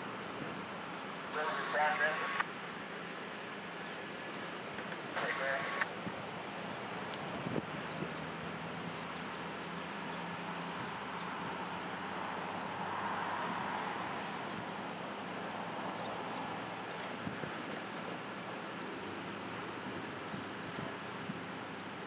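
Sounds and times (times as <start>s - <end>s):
locomotive engine hum: 0.0s - 22.0s
wheel and rail noise: 0.0s - 22.0s.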